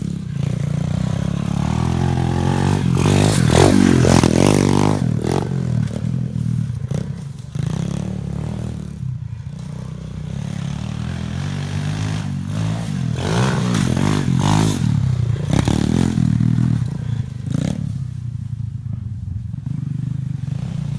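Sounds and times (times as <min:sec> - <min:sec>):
motorbike engine revving: 0:00.0 - 0:20.9.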